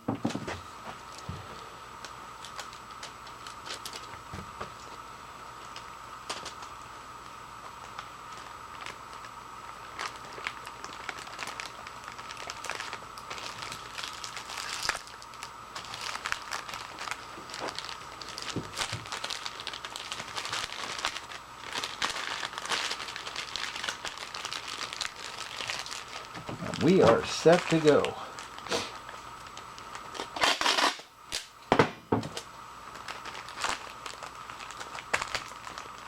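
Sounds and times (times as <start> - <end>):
faint steady hum: 0.0 - 36.0
plastic bag crinkling: 2.4 - 5.0, 5.6 - 6.8, 7.6 - 30.9, 32.2 - 36.0.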